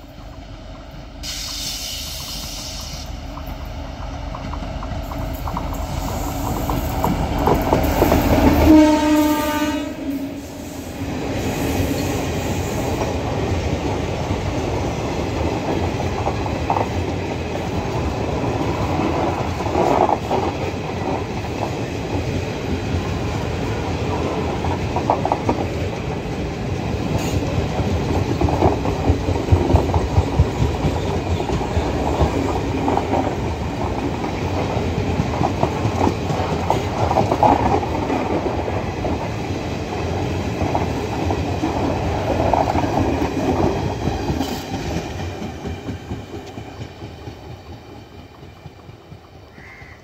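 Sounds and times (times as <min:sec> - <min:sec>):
train wheels clattering over rail joints: 0:01.2 - 0:09.2, 0:11.5 - 0:49.6.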